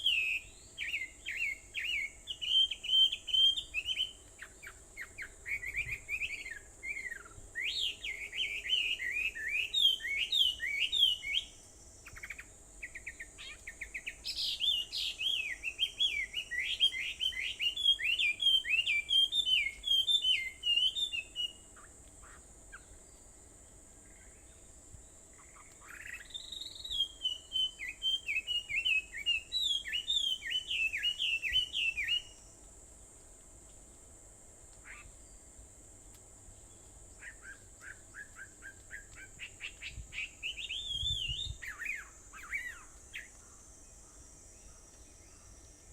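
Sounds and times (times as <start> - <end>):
songbird whistling song: 0.0 - 23.4, 25.4 - 32.6, 36.6 - 45.9.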